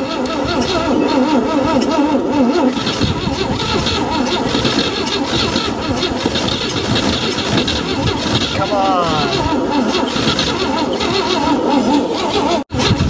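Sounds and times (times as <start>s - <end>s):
engine cranking on starter: 0.0s - 13.0s
starter whine: 0.0s - 13.0s.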